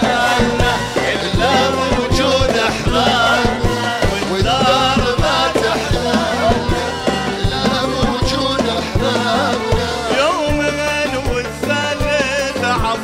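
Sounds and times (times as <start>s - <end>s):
drums beating: 0.0s - 13.0s.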